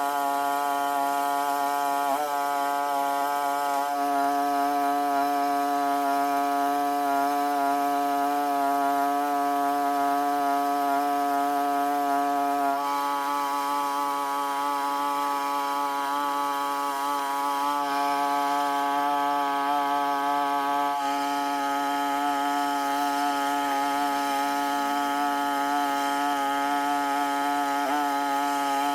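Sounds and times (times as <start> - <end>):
small two-stroke engine running: 0.0 - 28.9.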